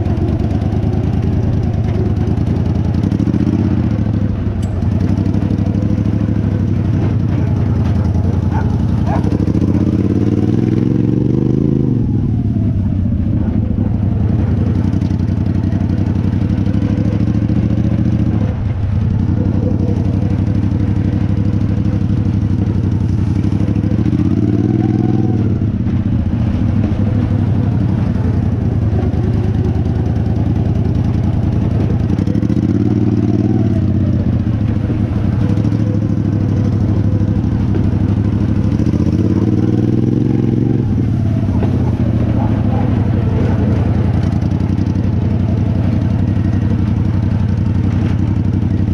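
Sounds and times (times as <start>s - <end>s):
riding lawnmower engine running hard: 0.0s - 48.9s.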